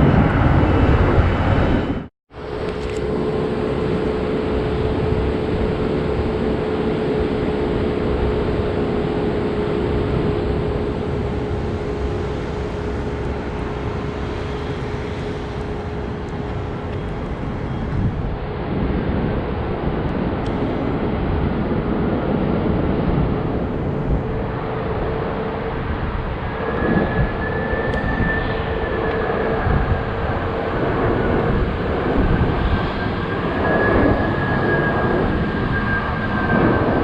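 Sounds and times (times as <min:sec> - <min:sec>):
high jet whine: 0:00.0 - 0:37.0
jet engines rumbling: 0:00.0 - 0:37.0.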